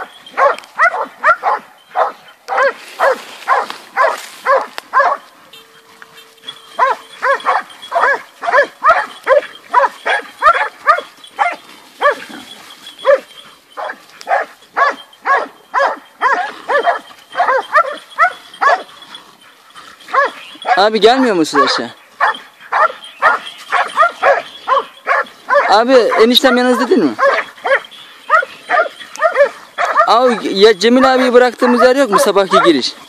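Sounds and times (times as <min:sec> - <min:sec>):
dogs barking: 0:00.0 - 0:33.0.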